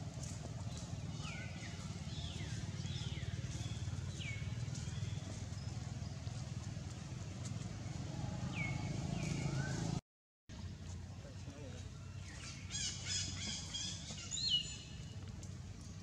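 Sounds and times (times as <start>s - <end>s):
birds chirping: 0.0s - 10.0s, 10.6s - 15.9s.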